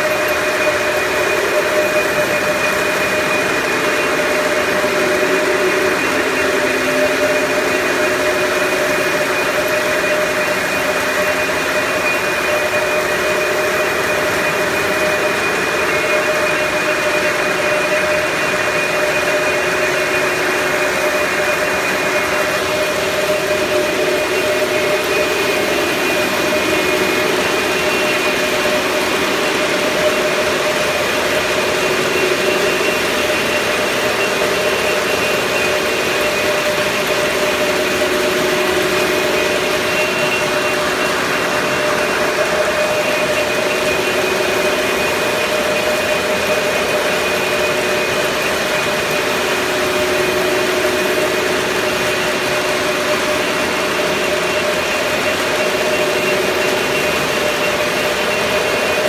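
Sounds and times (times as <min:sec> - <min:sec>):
steady mechanical drone: 0:00.0 - 0:59.0.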